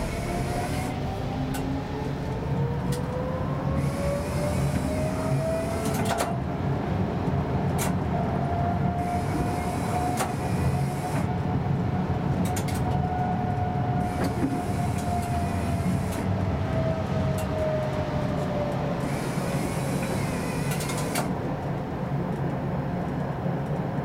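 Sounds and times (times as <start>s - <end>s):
tram motor whine: 0.0s - 24.0s
tram wheels rumbling on rails: 0.0s - 24.0s.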